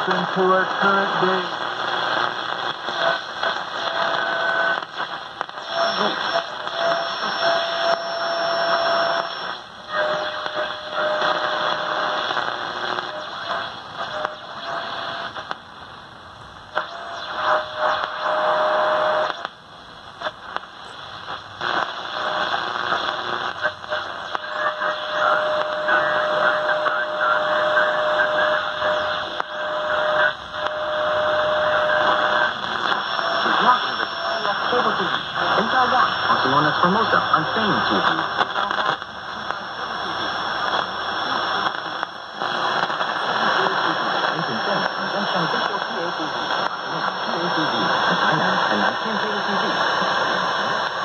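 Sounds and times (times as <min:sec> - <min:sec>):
steady radio whistle: 0:00.0 - 0:15.6, 0:16.7 - 0:19.5, 0:20.2 - 0:51.0
radio static hiss: 0:00.0 - 0:51.0.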